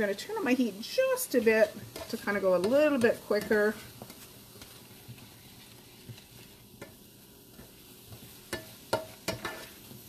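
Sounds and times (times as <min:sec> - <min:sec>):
mushrooms sizzling in a frying pan: 0:00.0 - 0:10.0
utensil scraping a pan: 0:00.0 - 0:10.0.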